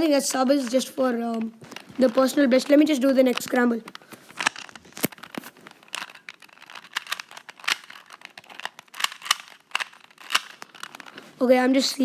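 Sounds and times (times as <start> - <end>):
puzzle cube clicking: 0.0 - 11.4.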